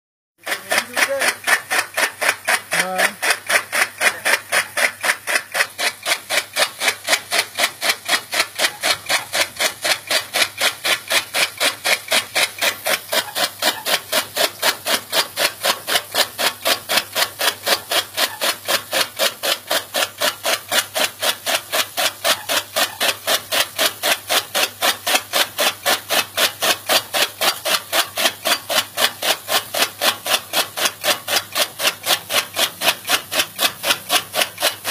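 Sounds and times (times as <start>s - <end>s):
rhythmic scraping strokes: 0.4s - 34.9s.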